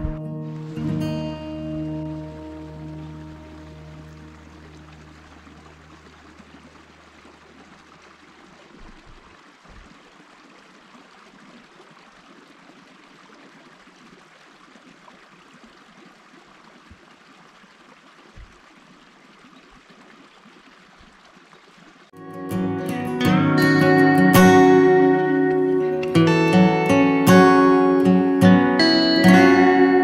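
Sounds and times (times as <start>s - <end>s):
water rushing: 0.0s - 30.0s.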